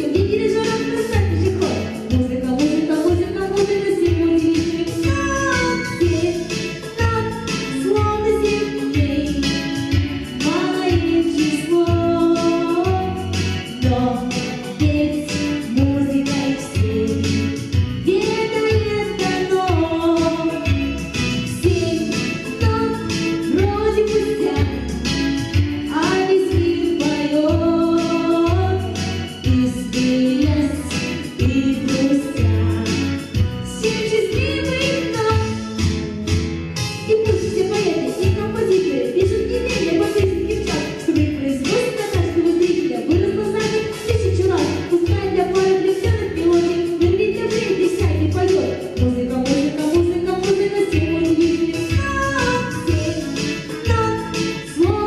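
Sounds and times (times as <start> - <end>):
instrumental accompaniment with beat: 0.0 - 55.0
woman singing: 0.0 - 55.0.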